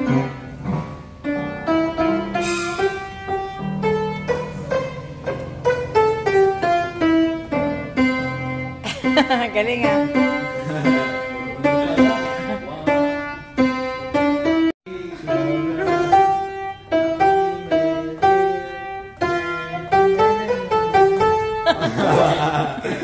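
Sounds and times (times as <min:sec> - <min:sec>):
upright piano playing: 0:00.0 - 0:23.0.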